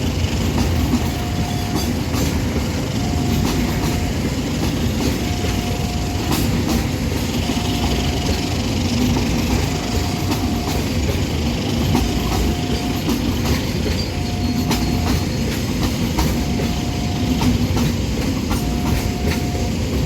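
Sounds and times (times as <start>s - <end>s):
train rumbling past: 0.0s - 20.0s
wheels clicking over rail joints: 0.0s - 20.0s
crossing warning signal tone: 0.8s - 20.0s.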